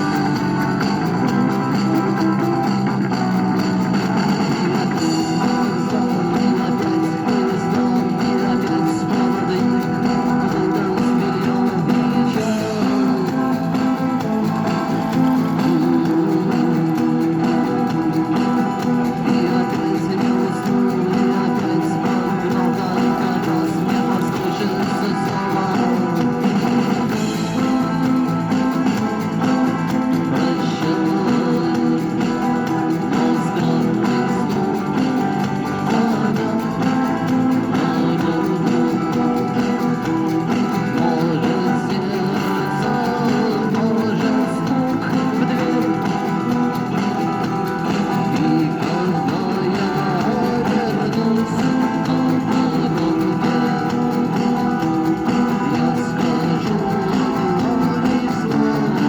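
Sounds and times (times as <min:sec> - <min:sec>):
guitar strummed and plucked: 0:00.0 - 0:59.0.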